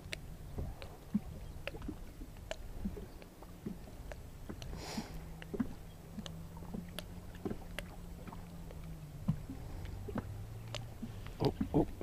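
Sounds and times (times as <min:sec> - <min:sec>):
boat motor hum: 0:00.0 - 0:12.0.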